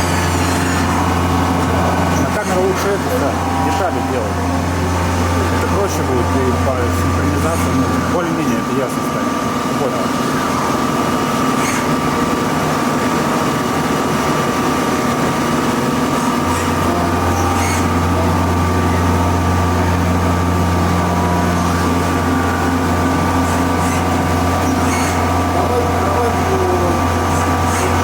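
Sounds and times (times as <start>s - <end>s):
deeper low machine hum: 0.0s - 28.0s
lathes humming with whine: 0.0s - 28.0s.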